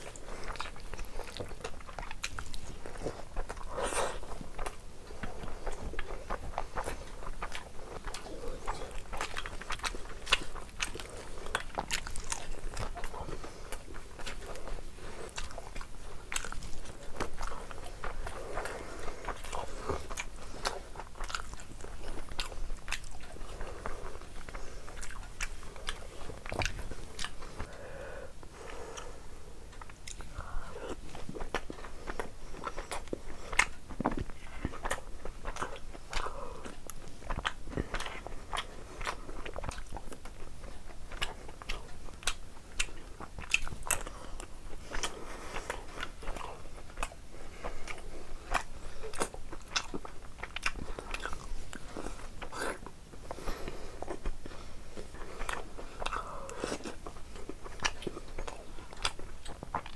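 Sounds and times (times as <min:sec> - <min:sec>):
person chewing with mouth smacks: 0:00.0 - 0:59.9.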